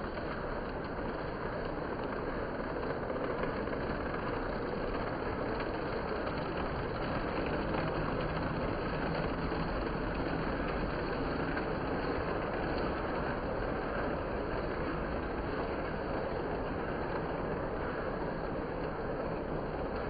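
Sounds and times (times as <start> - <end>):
toy trains rumbling on rails: 0.0 - 20.0.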